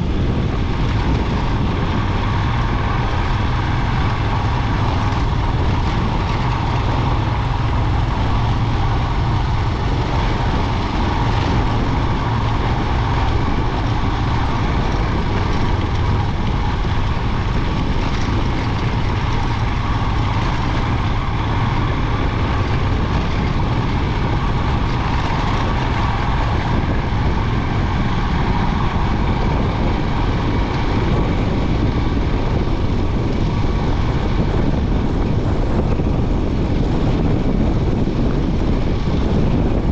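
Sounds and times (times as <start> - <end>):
motorcycle engine running: 0.0 - 39.9
rush of riding noise: 0.0 - 39.9.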